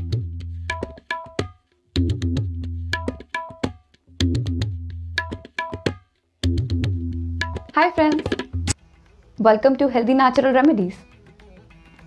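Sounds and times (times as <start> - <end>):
percussion loop of drum strokes: 0.0 - 12.0.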